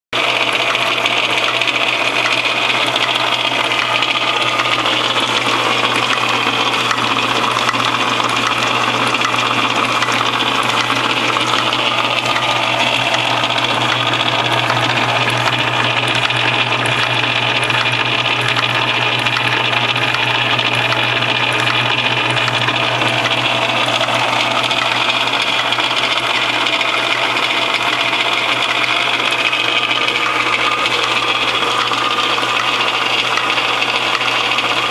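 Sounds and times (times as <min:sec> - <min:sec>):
low motor hum: 0:00.2 - 0:34.9.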